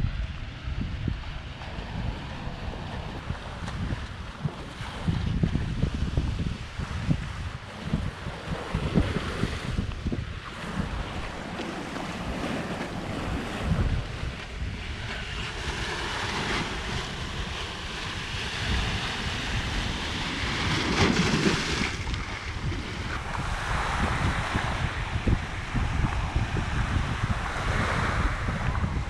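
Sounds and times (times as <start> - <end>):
surf washing onto beach: 0.0 - 29.0
wind buffeting microphone: 0.0 - 29.0.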